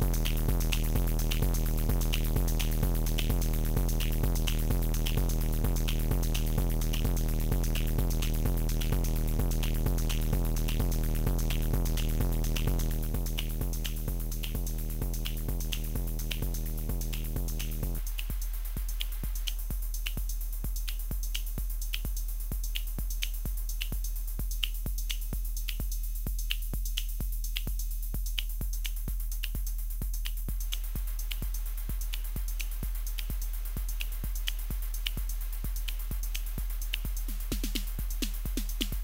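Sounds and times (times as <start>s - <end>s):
drum machine electronic beat: 0.0s - 39.0s.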